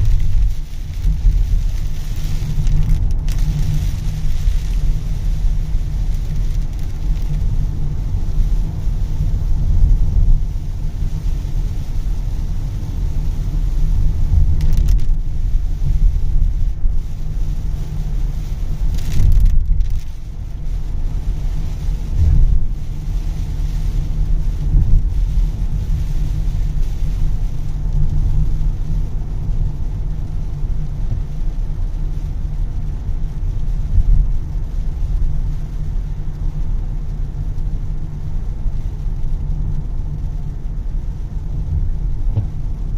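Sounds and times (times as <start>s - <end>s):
car road rumble: 0.0s - 42.9s
rain hiss: 0.0s - 42.9s.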